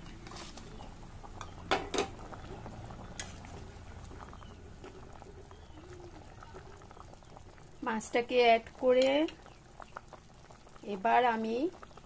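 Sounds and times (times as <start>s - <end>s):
curry bubbling at a boil: 0.0s - 12.0s.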